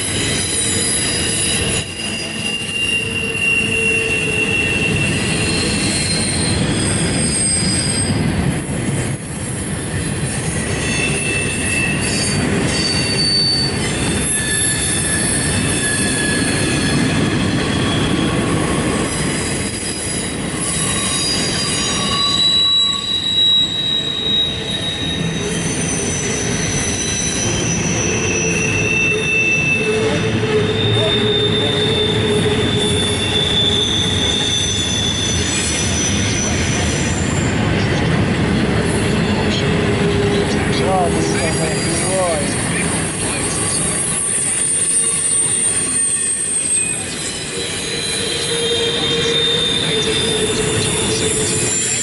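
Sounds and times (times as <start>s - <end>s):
high-pitched wheel squeals: 0.0s - 8.3s, 9.4s - 38.0s, 38.8s - 52.0s
freight train wheels rumbling: 0.0s - 52.0s.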